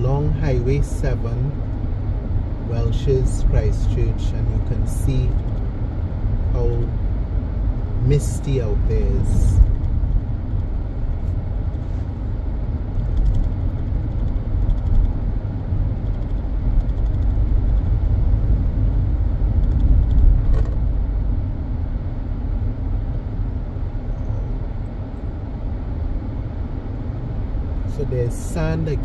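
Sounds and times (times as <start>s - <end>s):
car engine rumble: 0.0s - 29.0s
tyre road noise: 0.0s - 29.0s.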